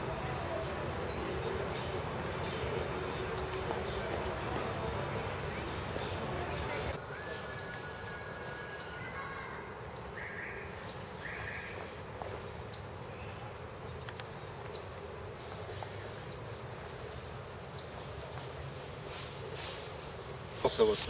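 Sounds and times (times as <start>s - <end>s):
steady background hiss: 0.0s - 21.0s
bird chirping: 0.8s - 18.0s, 18.8s - 19.6s.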